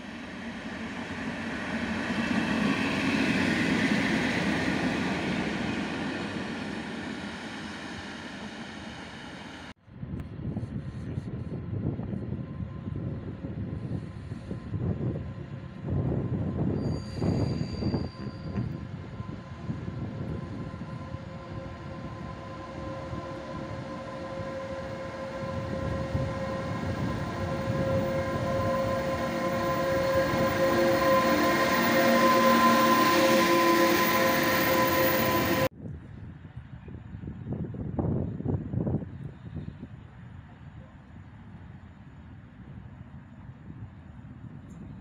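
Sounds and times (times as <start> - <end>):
electric locomotive rumble and whine: 0.0 - 45.0.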